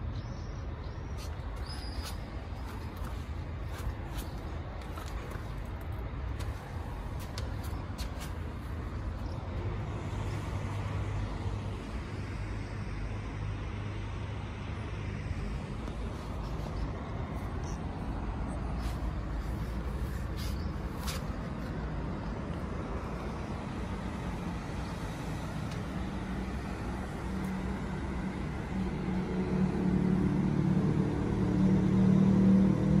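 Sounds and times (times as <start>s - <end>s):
bus engine drone: 0.0s - 33.0s
road traffic hum: 0.0s - 33.0s.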